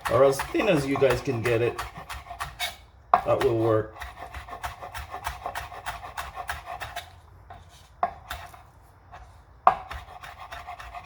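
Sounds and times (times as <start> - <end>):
knife slicing on cutting board: 0.0 - 8.6, 9.2 - 11.0.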